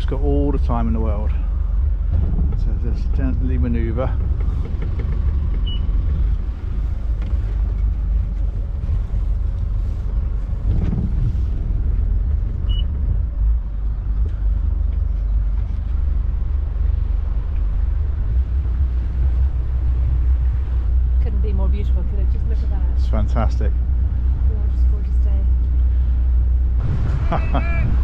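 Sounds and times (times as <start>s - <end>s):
boat engines rumbling: 0.0s - 28.0s.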